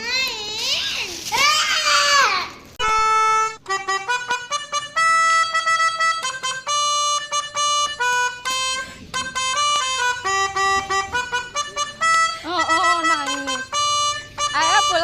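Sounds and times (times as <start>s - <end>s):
musical air horn melody: 2.8s - 15.0s.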